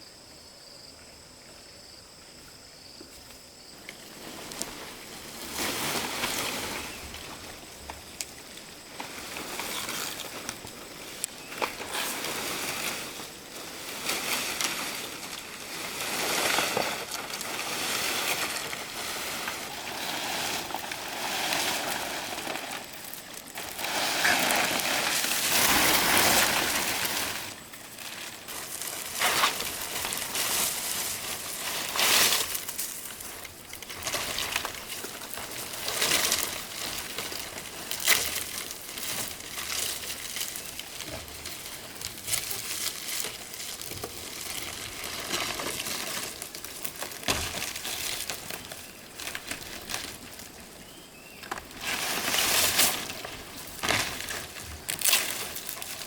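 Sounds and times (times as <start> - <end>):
leaves rustling and crinkling: 2.3 - 56.0.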